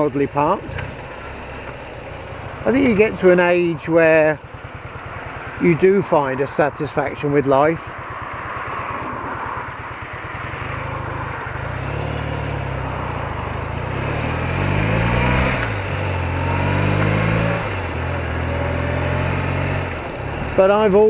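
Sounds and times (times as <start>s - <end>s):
motorcycle engine pulling through gears: 0.0s - 5.6s, 8.0s - 21.0s.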